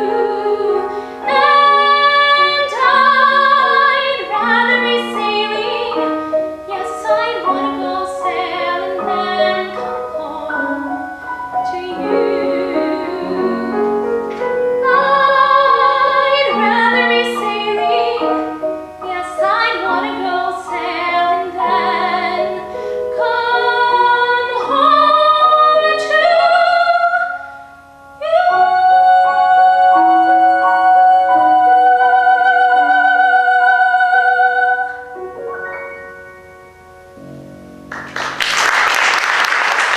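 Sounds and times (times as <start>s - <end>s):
woman singing: 0.0s - 11.0s, 11.6s - 14.2s, 14.8s - 27.5s, 28.2s - 35.1s
grand piano accompaniment: 0.0s - 39.9s.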